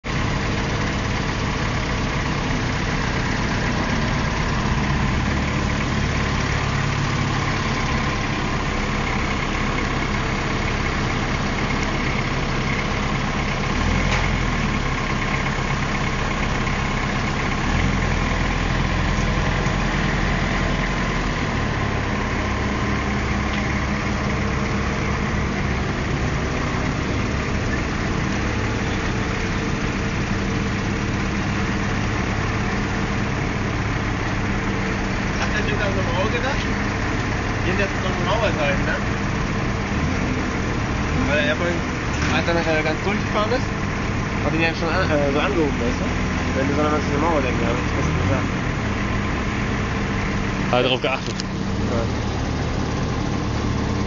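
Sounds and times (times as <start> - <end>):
forklift engine running: 0.0 - 54.0.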